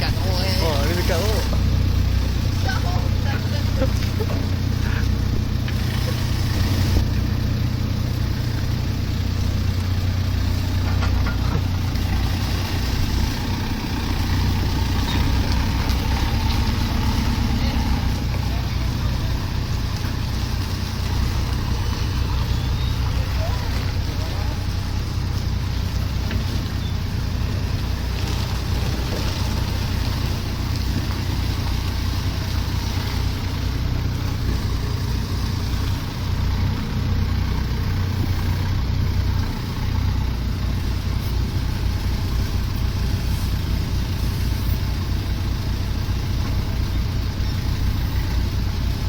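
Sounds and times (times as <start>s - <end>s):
heavy machine engine rumbling: 0.0s - 49.0s.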